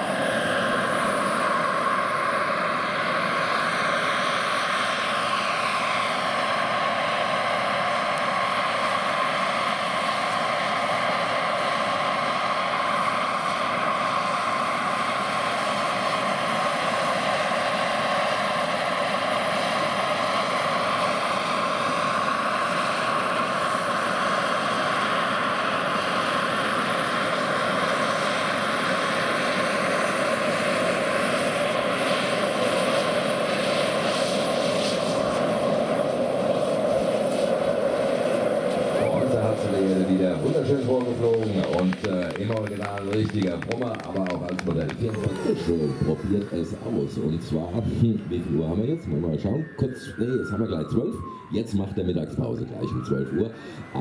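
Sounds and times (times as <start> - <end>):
model helicopter turbine whine: 0.0 - 54.0.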